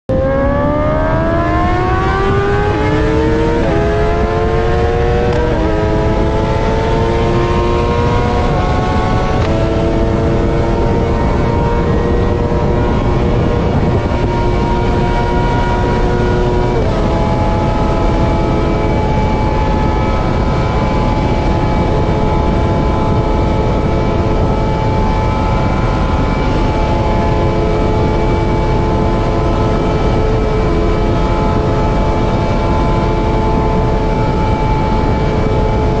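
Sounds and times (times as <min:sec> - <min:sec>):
motorcycle engine drone: 0:00.0 - 0:36.0
wind rush: 0:00.1 - 0:36.0.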